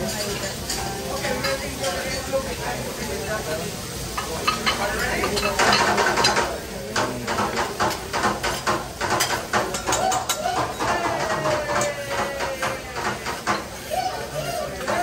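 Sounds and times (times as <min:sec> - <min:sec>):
food sizzling: 0:00.0 - 0:15.0.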